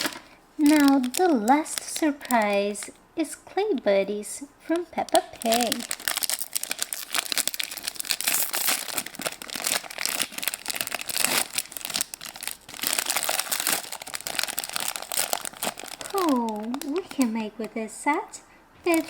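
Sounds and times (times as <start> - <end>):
wrapper crinkling and tearing: 0.0 - 2.9, 4.7 - 17.8.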